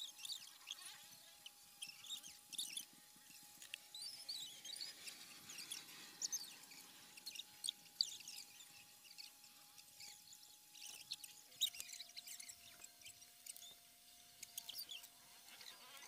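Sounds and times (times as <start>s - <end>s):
faint steady whine: 0.0s - 16.0s
small animals chirping and squeaking: 0.0s - 16.0s.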